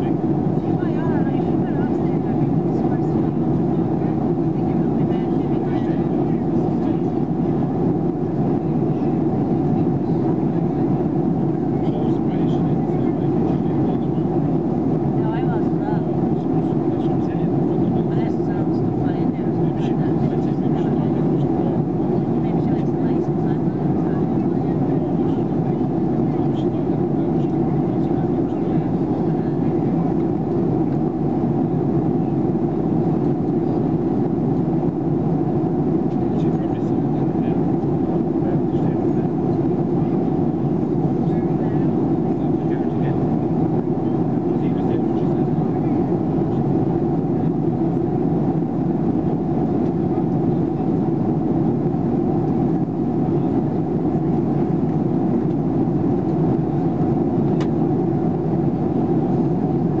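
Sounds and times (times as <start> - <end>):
airliner cabin roar: 0.0 - 60.0.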